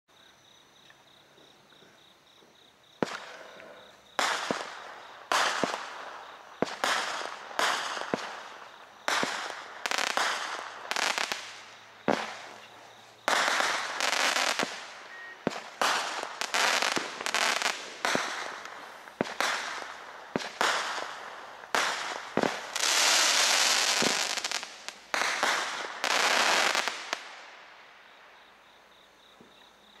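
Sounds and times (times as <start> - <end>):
firework bangs: 3.0 - 3.4, 4.1 - 27.7.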